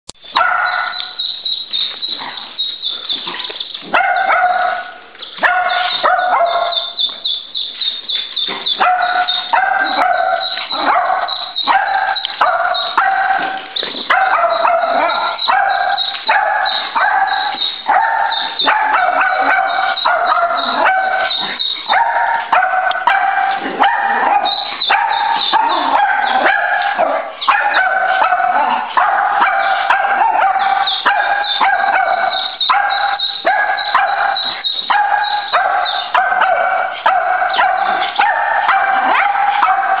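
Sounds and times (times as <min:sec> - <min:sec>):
small dog barking and yipping: 0:00.3 - 0:02.4, 0:03.8 - 0:40.0.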